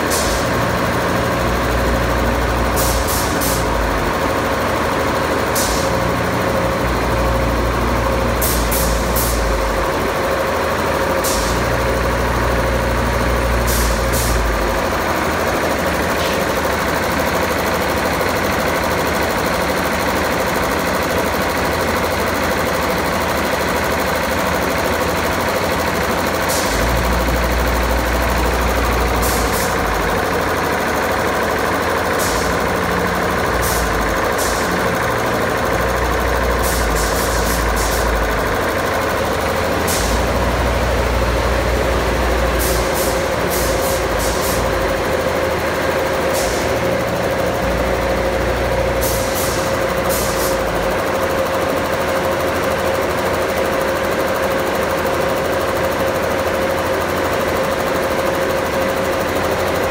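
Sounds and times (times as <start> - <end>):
compressor mechanical drone: 0.0 - 59.9.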